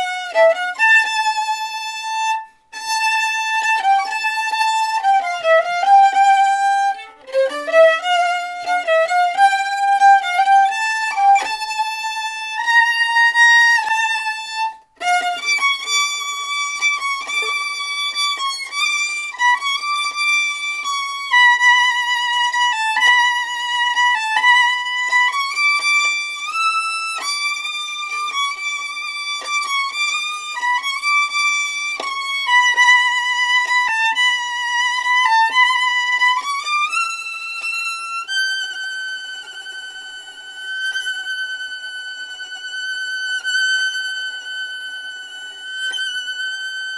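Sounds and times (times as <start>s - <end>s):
violin playing a melody: 0.0s - 46.9s.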